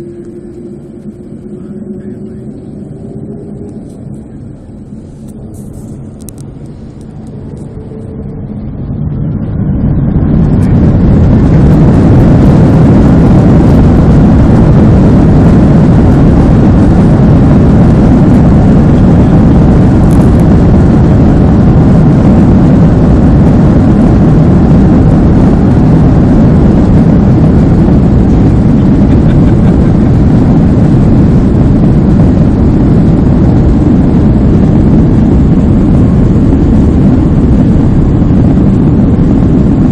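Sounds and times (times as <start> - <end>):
airliner engines roaring: 0.0 - 39.9.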